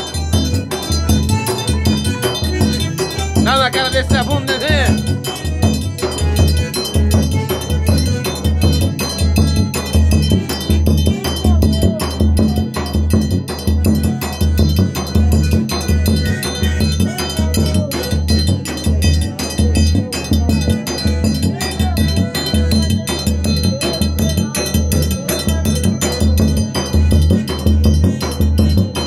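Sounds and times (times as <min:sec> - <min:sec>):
accordion melody: 0:00.0 - 0:29.0
bass drum beat: 0:00.0 - 0:29.0
triangle struck in fast rhythm: 0:00.0 - 0:29.0.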